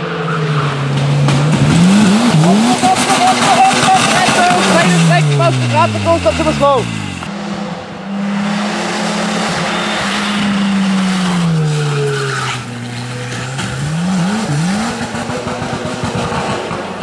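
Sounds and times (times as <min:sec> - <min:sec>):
car skidding on grass and dirt: 0:00.0 - 0:17.0
race car engine revving: 0:00.0 - 0:17.0.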